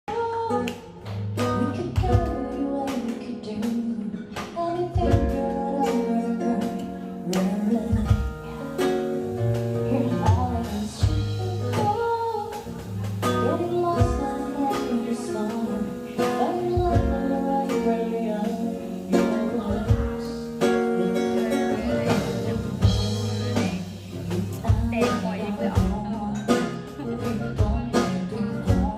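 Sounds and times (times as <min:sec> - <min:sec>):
person singing: 0:00.0 - 0:28.9
guitar with steady beat: 0:00.1 - 0:28.9.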